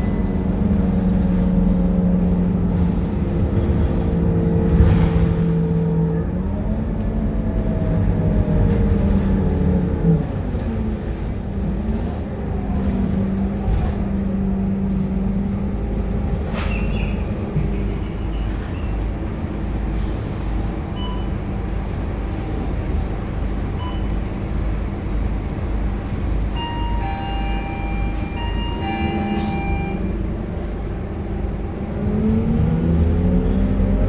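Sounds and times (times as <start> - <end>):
bus diesel engine drone: 0.0 - 34.0.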